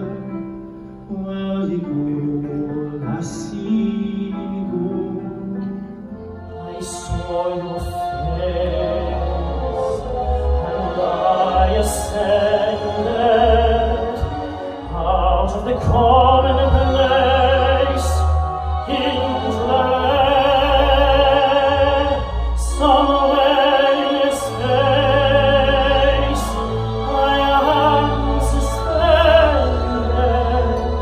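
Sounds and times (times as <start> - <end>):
man singing operatic tenor: 1.0 - 5.9, 6.6 - 31.0.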